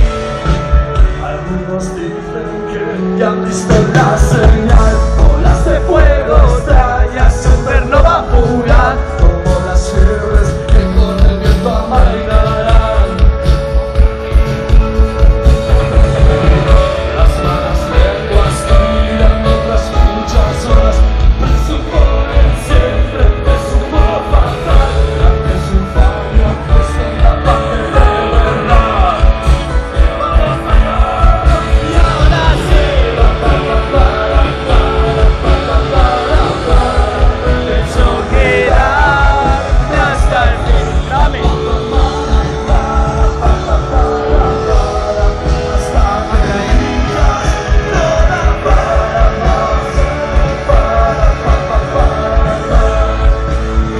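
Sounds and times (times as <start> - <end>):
person singing: 0.0 - 53.9
rock band playing live: 0.0 - 53.9.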